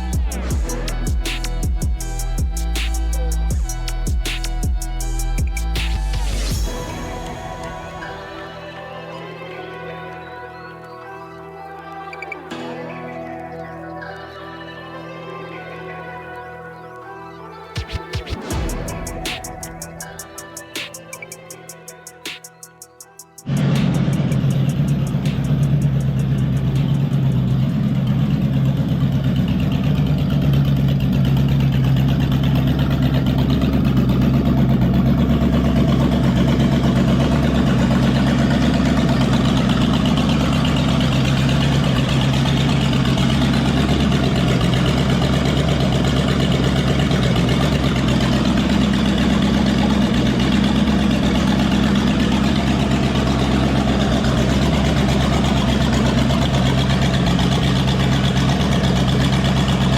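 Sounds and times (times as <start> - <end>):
car engine idling: 0.0 - 8.8, 17.8 - 59.9.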